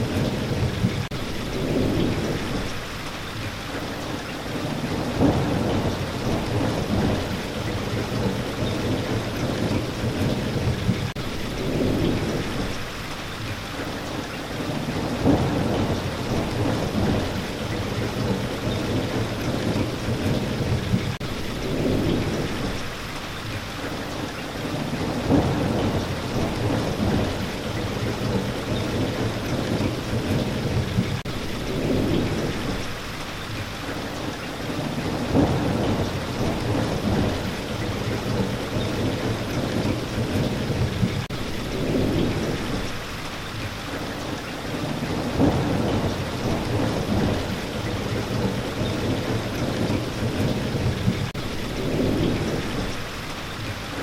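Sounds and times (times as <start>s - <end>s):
low rolling thunder: 0.0s - 2.9s, 3.9s - 12.9s, 14.5s - 23.0s, 24.4s - 54.0s
steady rain: 0.0s - 54.0s.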